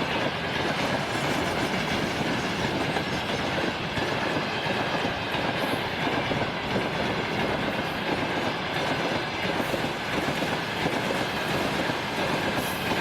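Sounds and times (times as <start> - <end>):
train wheels clattering over rail joints: 0.0 - 13.0.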